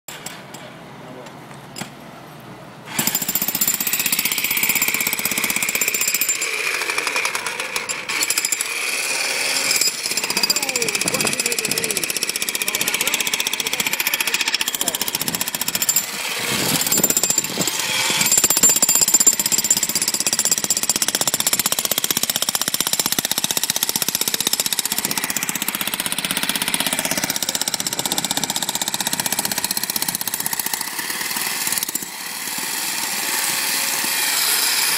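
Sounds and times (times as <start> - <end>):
demolition hammer chipping concrete: 2.9 - 34.9.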